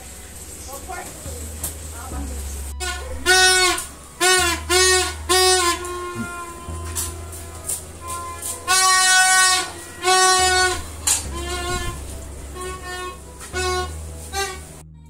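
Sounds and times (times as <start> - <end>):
toy trumpet tooting: 2.8 - 14.8.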